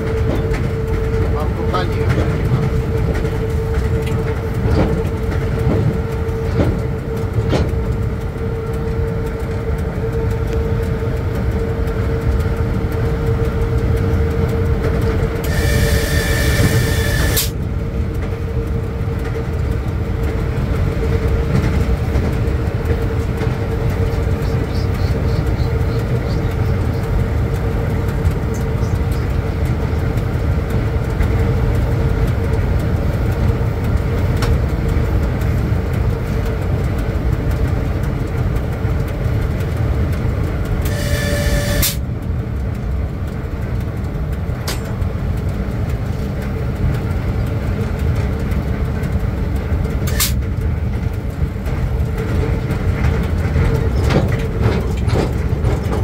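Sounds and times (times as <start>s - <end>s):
locomotive cab rumble: 0.0s - 56.0s.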